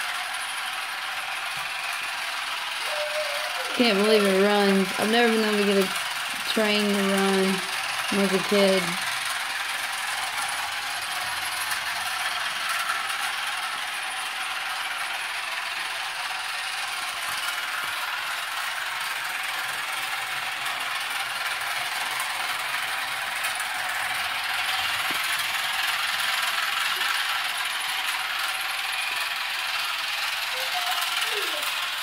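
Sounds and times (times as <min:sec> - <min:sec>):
toy train motor whirring: 0:00.0 - 0:32.0.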